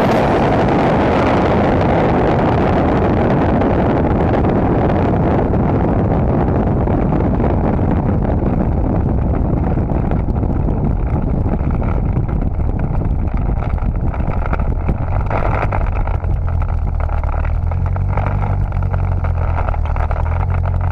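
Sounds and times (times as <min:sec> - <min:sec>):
wind and road noise: 0:00.0 - 0:20.9.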